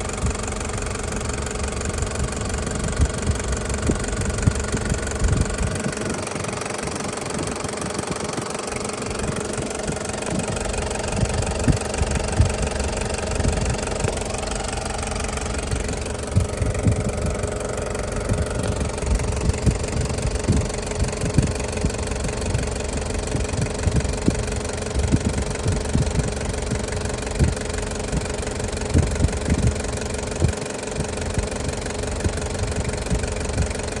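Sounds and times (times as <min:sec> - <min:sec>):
diesel engine idling: 0:00.0 - 0:34.0
dull low thumps: 0:00.0 - 0:34.0.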